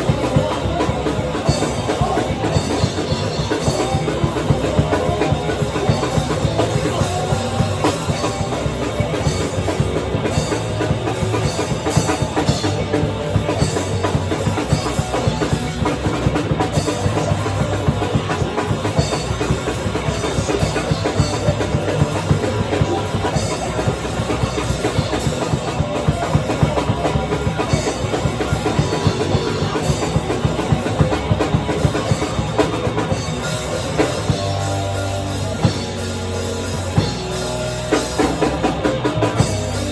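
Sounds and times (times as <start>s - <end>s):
fast drum kit playing: 0.0s - 39.9s
loud rock band music: 0.0s - 39.9s.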